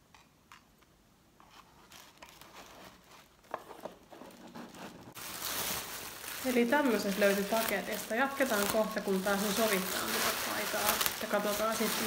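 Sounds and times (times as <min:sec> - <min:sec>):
packaging paper rustling: 0:01.8 - 0:12.0.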